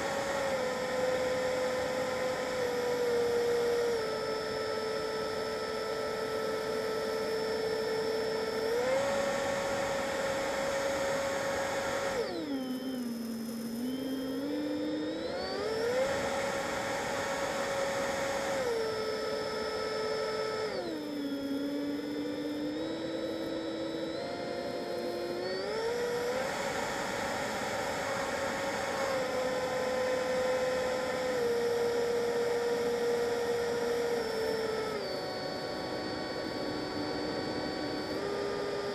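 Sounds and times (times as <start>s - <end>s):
electric ducted fan whining: 0.0s - 38.9s.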